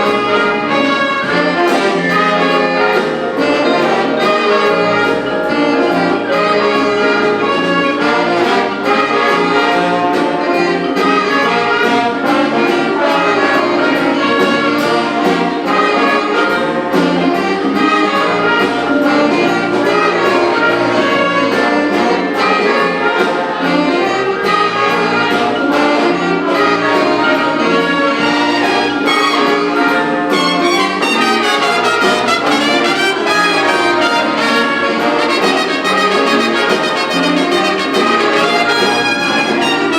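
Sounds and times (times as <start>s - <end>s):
brass section playing: 0.0s - 39.9s.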